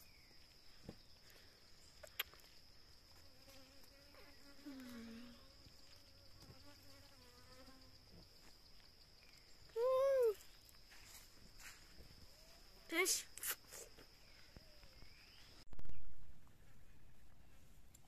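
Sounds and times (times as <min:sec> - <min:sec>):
insect drone: 0:00.0 - 0:15.6.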